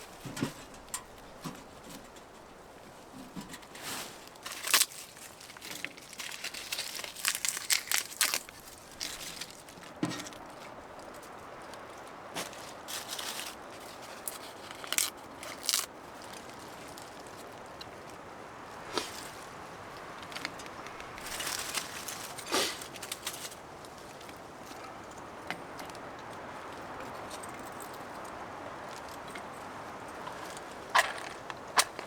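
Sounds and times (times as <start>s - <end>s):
material crinkling and crunching: 0.0s - 24.3s, 30.2s - 32.0s.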